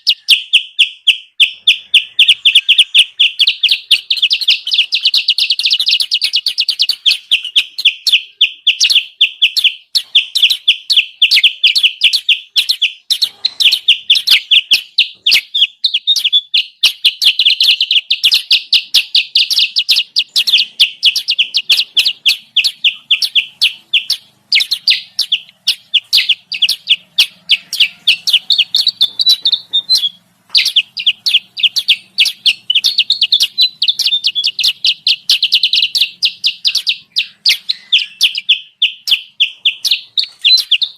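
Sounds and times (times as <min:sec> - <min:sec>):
high sharp bird chirps: 0:00.0 - 0:40.9.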